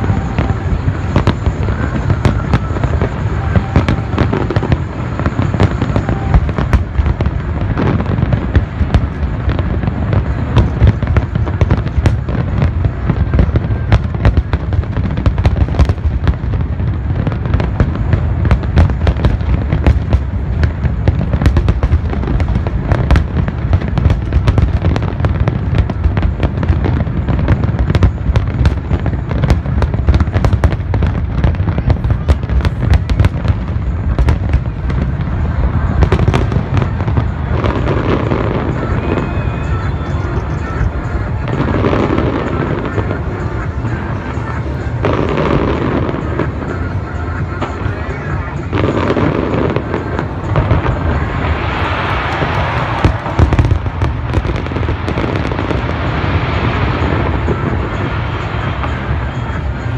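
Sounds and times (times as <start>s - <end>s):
deep rumble: 0.0s - 59.9s
fireworks bangs and crackles: 0.0s - 59.9s.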